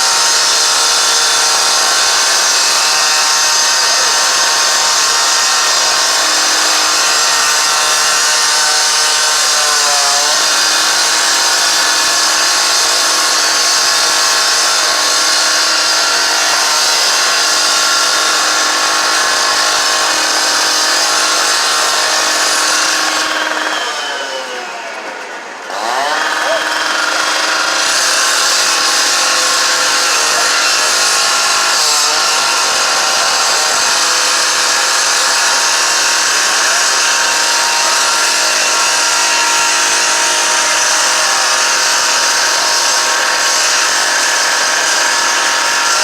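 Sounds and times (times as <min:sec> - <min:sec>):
loud machine whine: 0:00.0 - 0:46.0.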